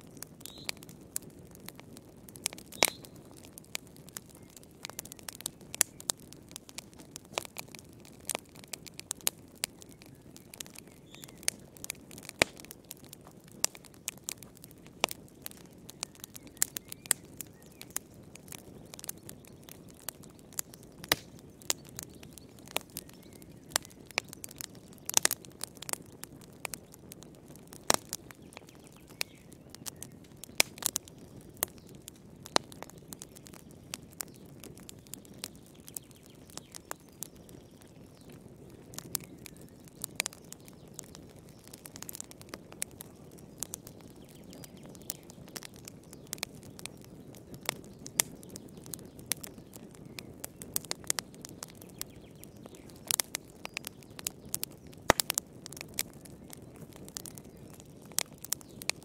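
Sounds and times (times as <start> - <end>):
logs crackling and popping in fire: 0.0 - 59.0.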